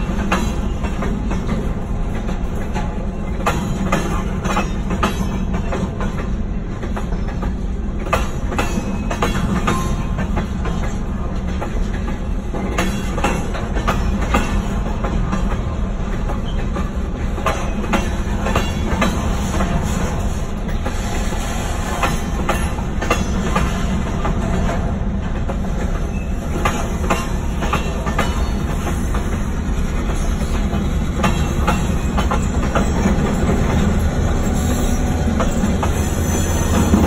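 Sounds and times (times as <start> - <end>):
train wheels rumbling: 0.0 - 37.0
wheels clacking over rail joints: 0.0 - 37.0.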